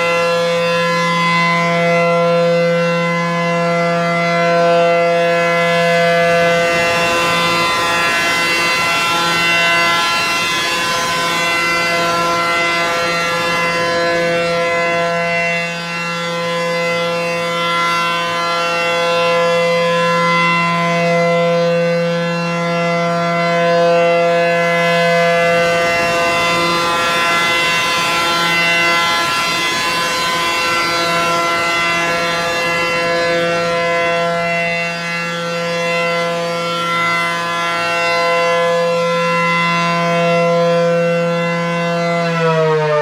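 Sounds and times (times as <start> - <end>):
outdoor warning siren steady tone: 0.0 - 43.0.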